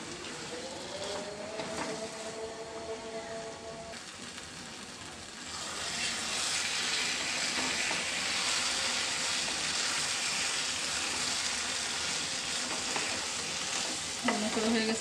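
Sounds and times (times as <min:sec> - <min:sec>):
food sizzling in a frying pan: 0:00.0 - 0:02.3, 0:03.2 - 0:15.0.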